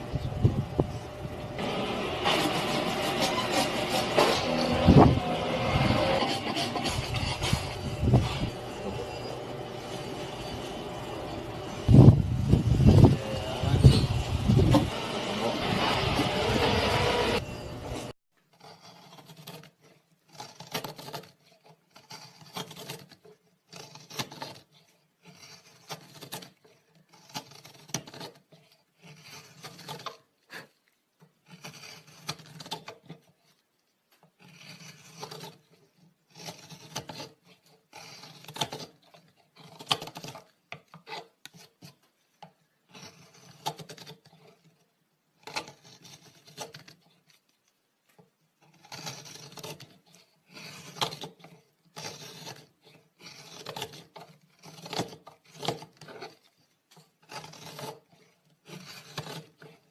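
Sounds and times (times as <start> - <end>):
hand tool rasping across wood: 0.0 - 59.9.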